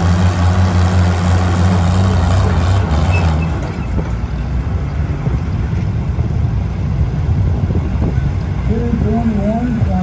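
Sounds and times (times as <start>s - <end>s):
tractor engines running: 0.0s - 10.0s.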